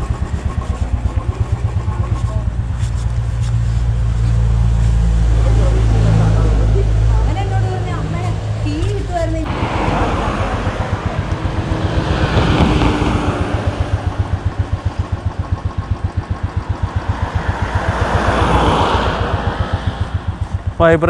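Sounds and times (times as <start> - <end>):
motorcycle engine idling: 0.0 - 21.0
vehicles passing on road: 0.0 - 21.0.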